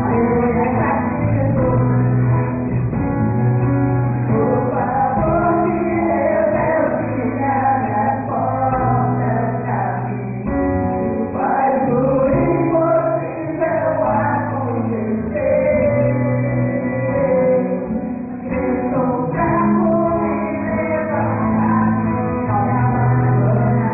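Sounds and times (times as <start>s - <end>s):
person singing: 0.0s - 2.7s, 4.2s - 23.9s
gospel band playing: 0.0s - 23.9s
held bass notes: 0.0s - 23.9s.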